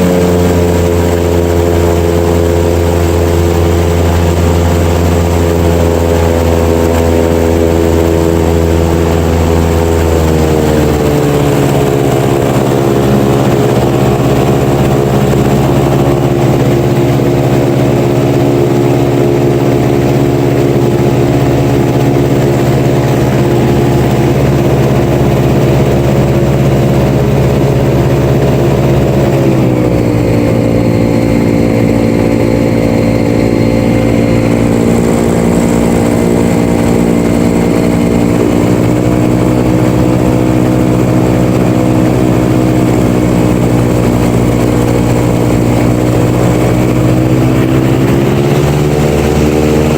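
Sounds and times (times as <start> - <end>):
airboat engine and propeller: 0.0 - 49.9.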